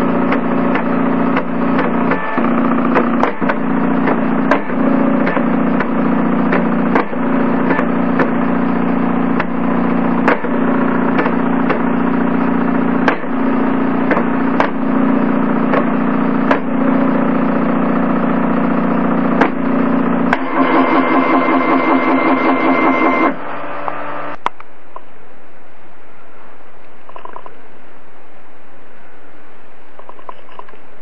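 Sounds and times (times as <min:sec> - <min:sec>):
motor and fan hum: 0:00.0 - 0:31.0.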